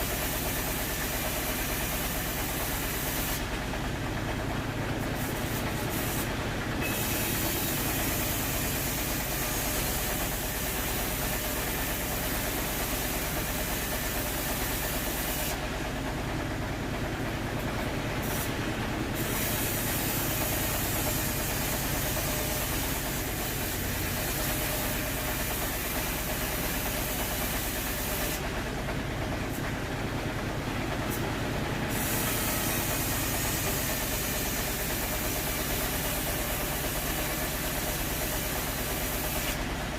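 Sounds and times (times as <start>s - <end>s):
machinery hiss: 0.0s - 16.3s, 17.1s - 28.6s, 30.7s - 39.9s
sawmill machinery drone: 0.0s - 39.9s.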